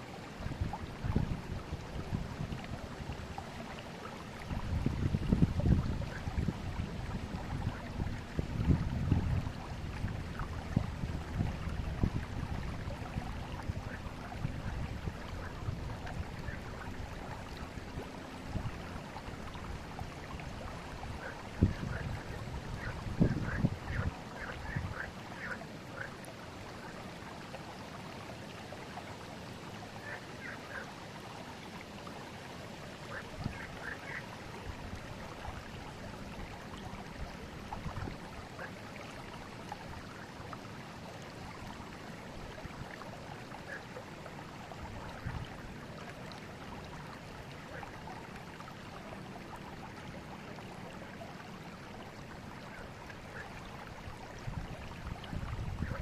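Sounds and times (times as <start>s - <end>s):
river flowing: 0.0s - 56.0s
water splashing over stones: 0.0s - 56.0s.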